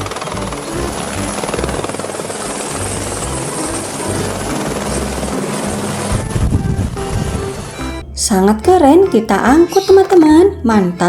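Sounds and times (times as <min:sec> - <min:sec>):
helicopter rotor chopping: 0:00.0 - 0:10.6.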